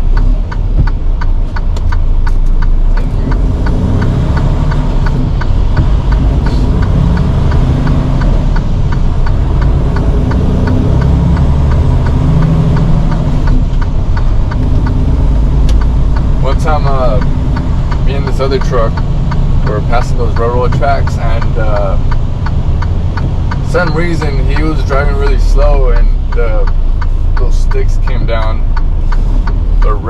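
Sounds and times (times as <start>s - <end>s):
fast steady ticking: 0.0s - 30.0s
truck diesel engine: 0.0s - 30.0s.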